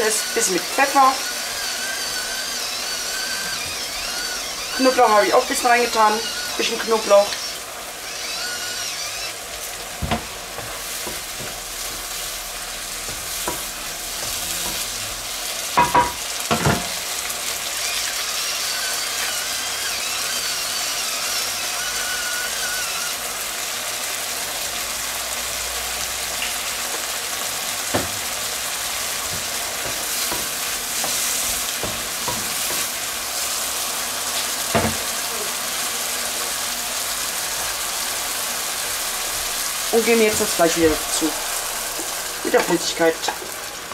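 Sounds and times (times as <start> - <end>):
mushrooms and onions sizzling: 0.0 - 43.9.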